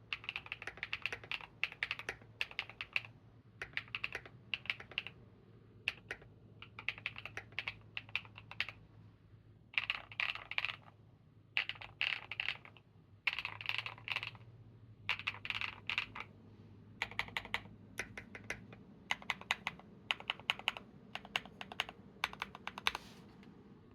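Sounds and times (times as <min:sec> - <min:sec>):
mechanical keyboard typing: 0:00.0 - 0:05.2, 0:05.9 - 0:08.8, 0:09.8 - 0:10.9, 0:11.6 - 0:14.4, 0:15.1 - 0:16.3, 0:17.0 - 0:23.1.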